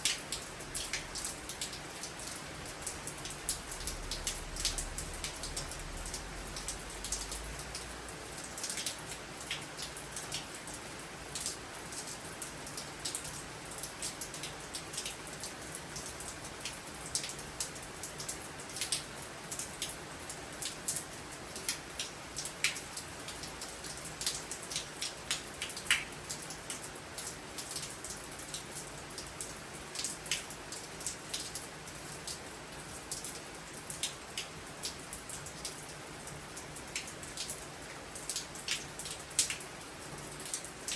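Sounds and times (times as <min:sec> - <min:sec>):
raindrops tapping on surface: 0:00.0 - 0:40.9
steady rain: 0:00.0 - 0:40.9.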